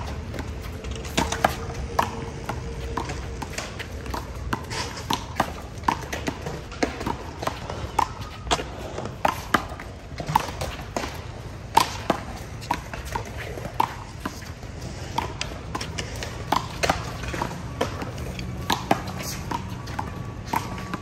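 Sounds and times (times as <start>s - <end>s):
handball smacking and bouncing: 0.0s - 21.0s.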